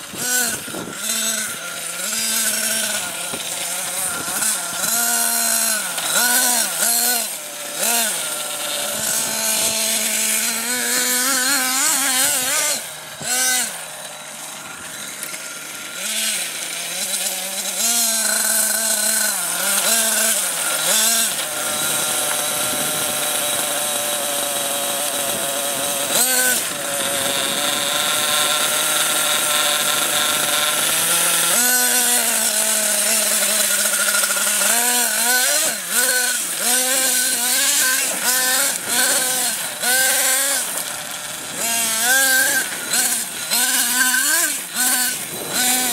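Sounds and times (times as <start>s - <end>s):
nitro engine buzzing: 0.0s - 45.9s.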